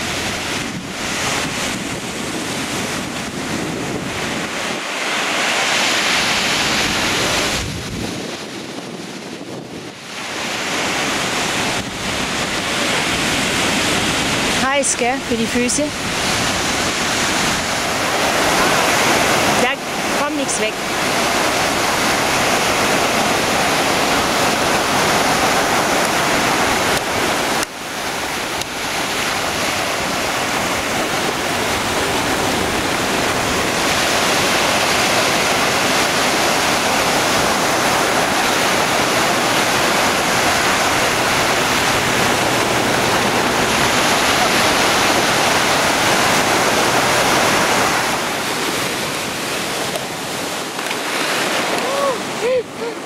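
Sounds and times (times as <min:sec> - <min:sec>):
waves breaking on shore: 0:00.0 - 0:53.0.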